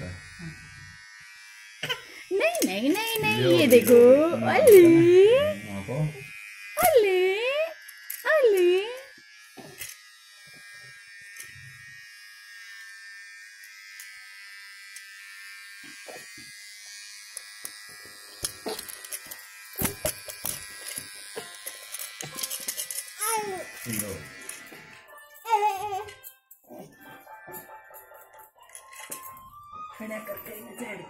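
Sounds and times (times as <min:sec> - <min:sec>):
electric hair trimmer buzzing: 0:00.0 - 0:26.3.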